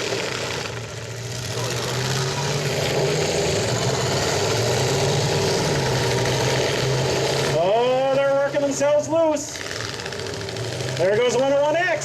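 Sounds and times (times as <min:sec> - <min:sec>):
truck engines running hard: 0:00.0 - 0:12.0.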